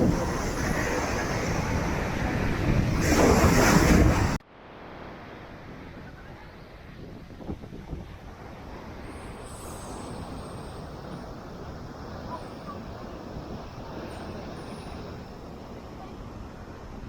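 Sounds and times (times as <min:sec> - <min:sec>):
wind buffeting microphone: 0:00.0 - 0:04.4, 0:05.9 - 0:17.0
ocean surf breaking: 0:00.0 - 0:06.2, 0:08.2 - 0:17.0.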